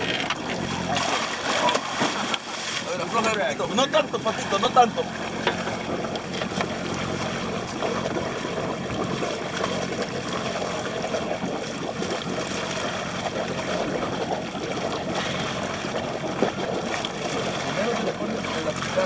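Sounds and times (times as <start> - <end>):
boat engine hum: 0.0 - 19.0
water splashing against hull: 0.0 - 19.0.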